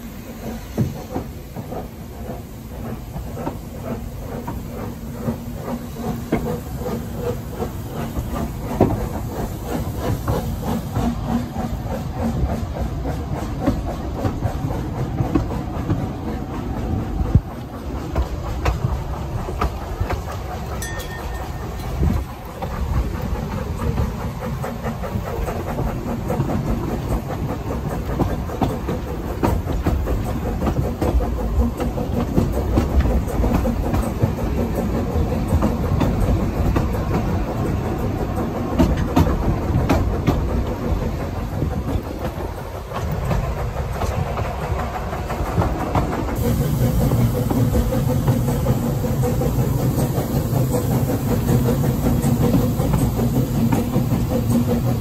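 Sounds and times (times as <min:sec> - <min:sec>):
steam hiss: 0:00.0 - 0:55.0
steam train rumbling: 0:00.0 - 0:55.0
wheels clacking over rail joints: 0:00.0 - 0:55.0.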